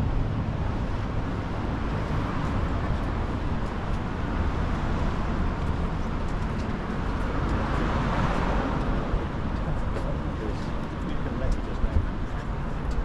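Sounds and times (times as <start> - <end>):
vehicle passing: 0.0 - 12.5
road traffic rumble: 0.0 - 13.0.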